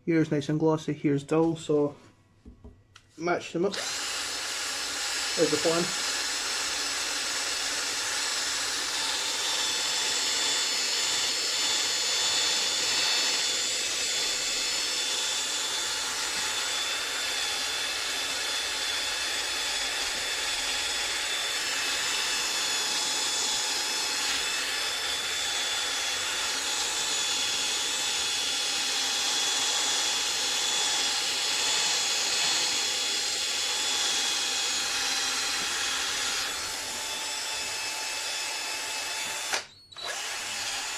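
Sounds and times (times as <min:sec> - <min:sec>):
electric drill whining: 0:03.6 - 0:40.9.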